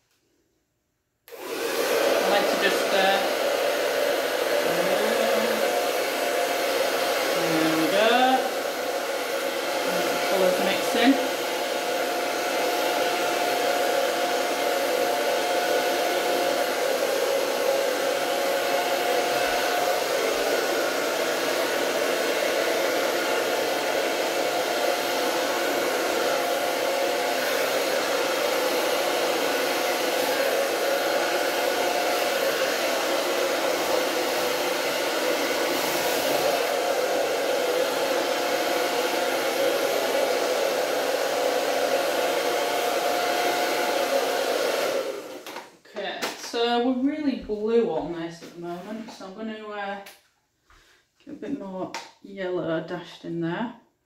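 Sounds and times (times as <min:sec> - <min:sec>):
hair dryer blowing air: 0:01.3 - 0:50.2.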